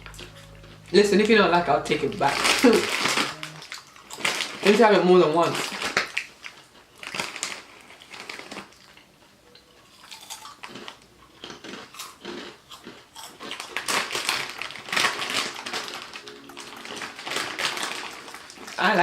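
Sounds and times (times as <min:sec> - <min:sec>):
crunching corn snacks: 0:02.3 - 0:19.0.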